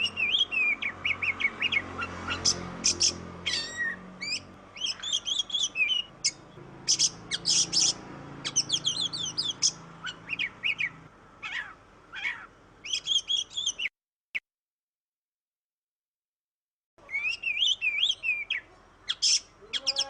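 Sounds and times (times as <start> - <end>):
songbird singing: 0.0 - 13.9, 17.0 - 20.0.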